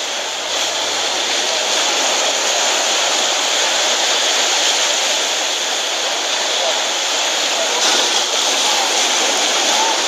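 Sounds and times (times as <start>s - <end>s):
surf and wind hiss: 0.0s - 10.0s.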